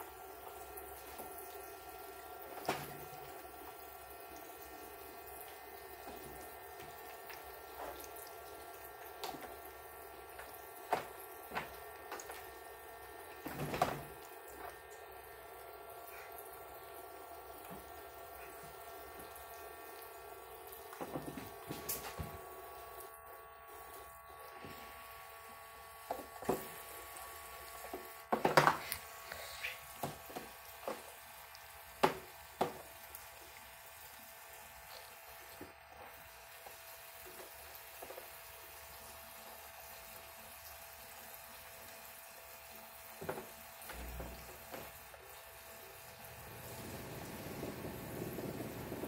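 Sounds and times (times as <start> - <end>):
faint pump hum: 0.0 - 49.0
faucet stream into water: 0.0 - 49.0.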